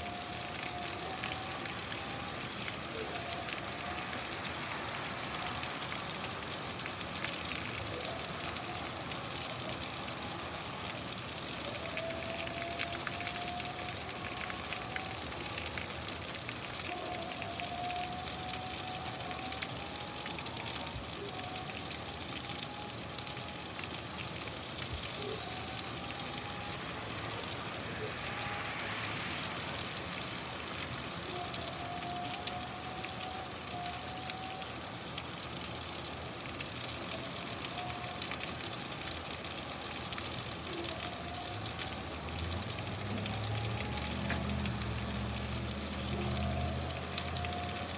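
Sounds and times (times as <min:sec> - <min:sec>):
steady rainfall: 0:00.0 - 0:47.9.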